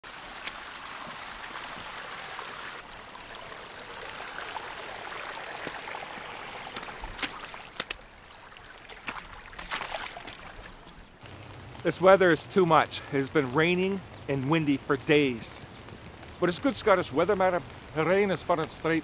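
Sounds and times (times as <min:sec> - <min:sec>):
stream running and splashing: 0:00.0 - 0:19.0.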